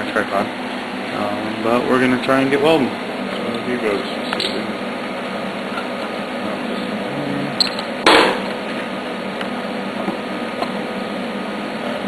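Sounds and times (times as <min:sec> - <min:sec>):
fan mechanical hum: 0:00.0 - 0:12.0.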